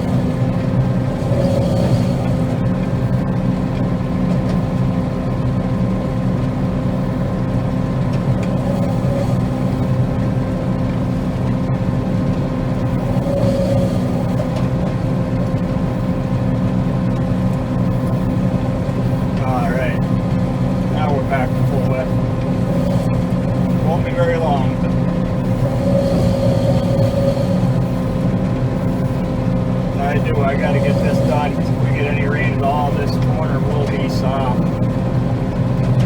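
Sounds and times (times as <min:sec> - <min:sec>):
combine harvester engine droning: 0:00.0 - 0:36.0.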